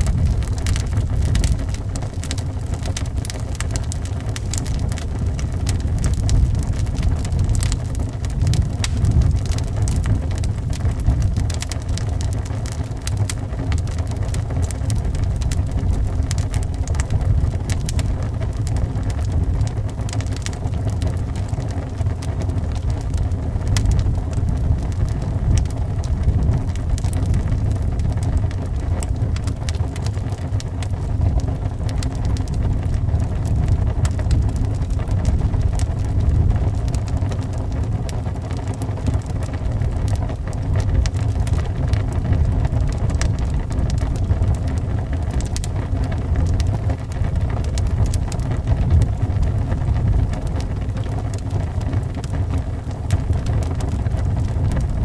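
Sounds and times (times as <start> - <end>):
low wind rumble: 0.0 - 55.0
wood fire crackling: 0.0 - 55.0.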